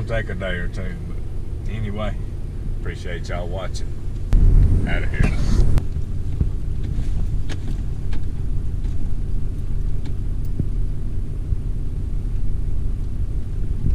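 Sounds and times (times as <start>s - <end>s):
engine and road rumble: 0.0s - 13.9s.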